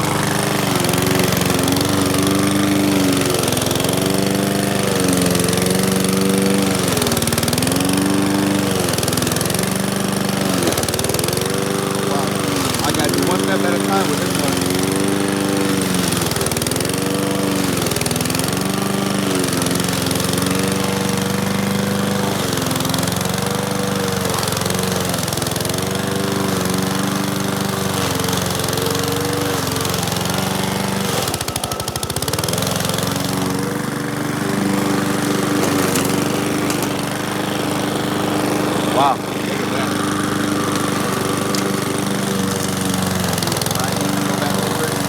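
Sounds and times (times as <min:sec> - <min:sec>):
lawn mower engine bogging: 0:00.0 - 0:45.0.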